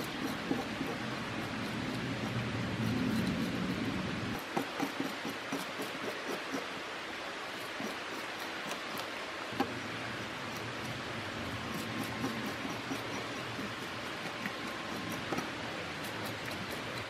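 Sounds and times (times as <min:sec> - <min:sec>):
fish scaler scraping scales: 0:00.0 - 0:06.8, 0:07.4 - 0:17.0.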